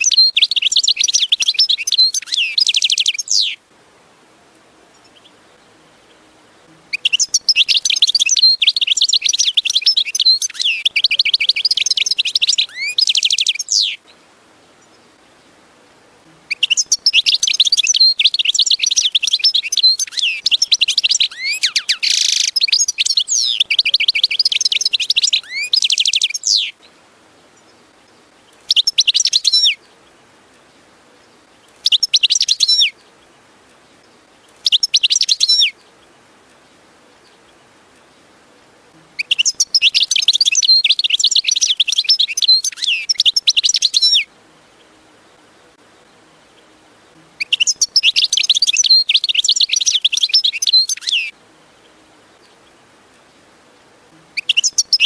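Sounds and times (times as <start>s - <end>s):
goldfinch singing: 0.0s - 3.6s, 4.9s - 55.0s.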